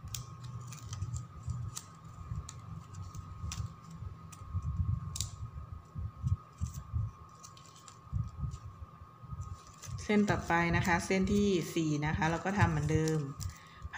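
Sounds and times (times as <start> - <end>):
plastic ribbon crinkling: 0.0 - 5.5, 6.2 - 13.9.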